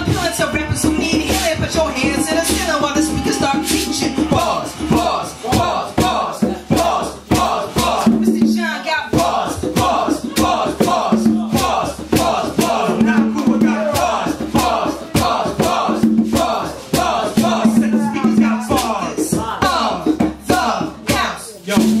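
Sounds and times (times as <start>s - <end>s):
live hip hop band: 0.0s - 22.0s
shouted vocals on microphone: 0.7s - 21.7s.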